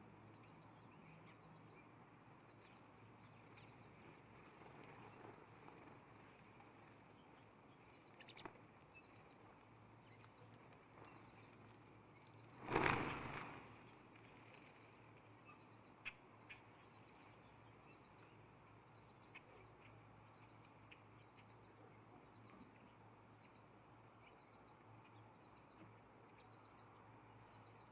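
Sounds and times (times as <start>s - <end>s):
faint high bird chirps: 0.3s - 5.4s, 6.2s - 27.9s.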